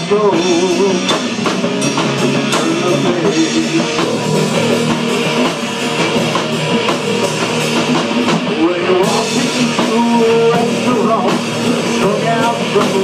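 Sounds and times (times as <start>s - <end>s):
drum kit beat: 0.0s - 13.0s
rock band playing live: 0.0s - 13.0s.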